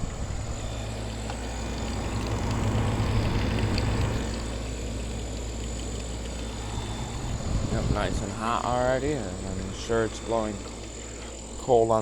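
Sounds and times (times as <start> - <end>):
compressor humming: 0.0 - 12.0
condenser fan blowing: 0.0 - 12.0.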